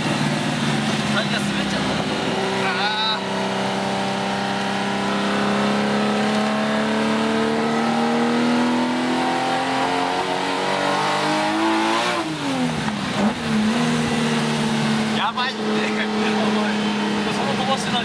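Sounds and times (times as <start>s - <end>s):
car engine revving from inside cabin: 1.7s - 17.4s.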